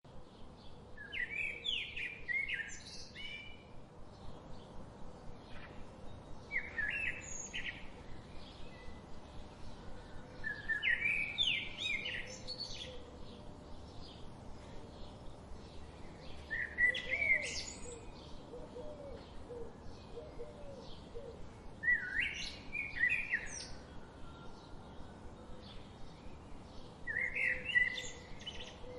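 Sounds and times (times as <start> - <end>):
bird singing: 0.1 - 28.9.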